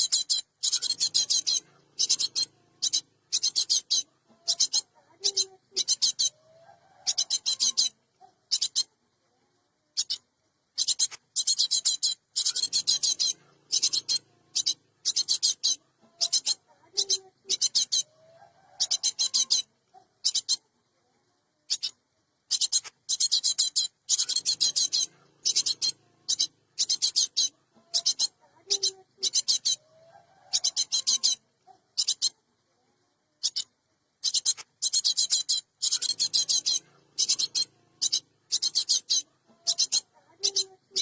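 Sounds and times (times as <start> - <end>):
bird giving harsh rasping calls: 0.0 - 8.9, 10.8 - 20.6, 22.5 - 29.8, 34.2 - 41.0.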